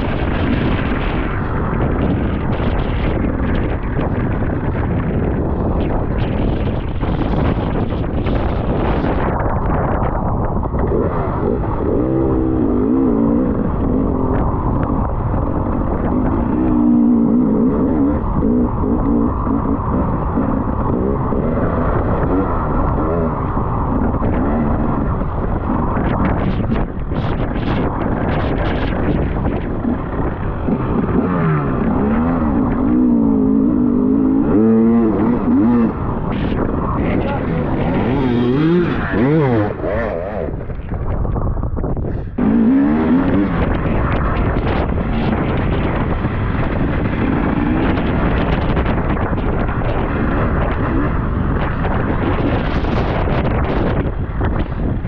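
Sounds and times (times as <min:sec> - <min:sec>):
motorcycle engine revving: 0:00.0 - 0:55.0
wind buffeting microphone: 0:00.0 - 0:55.0.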